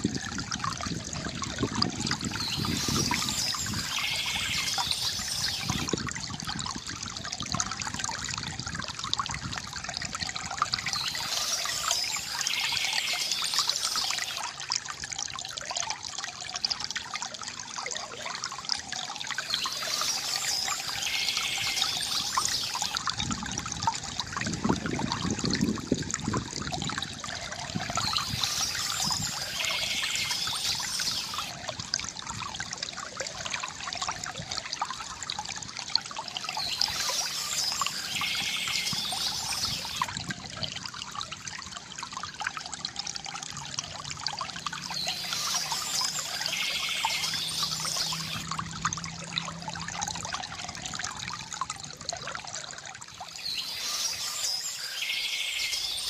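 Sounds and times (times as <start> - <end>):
stream water trickling and babbling: 0.0 - 56.0.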